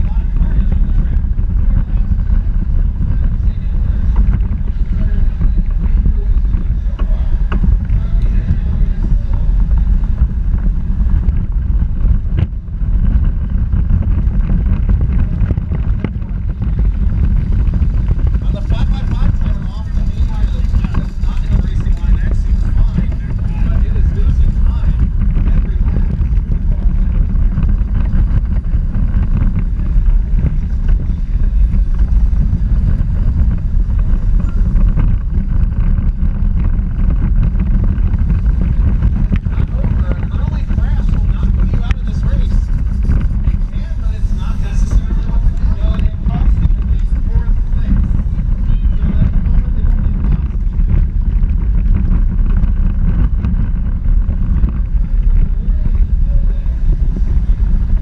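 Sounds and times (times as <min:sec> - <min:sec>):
wheels rumbling: 0:00.0 - 0:58.0
wind buffeting microphone: 0:00.0 - 0:58.0.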